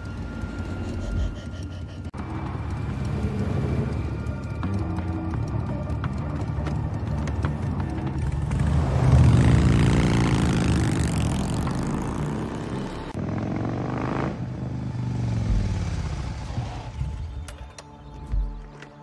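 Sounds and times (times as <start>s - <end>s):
motorcycle engine accelerating: 0.0s - 17.7s.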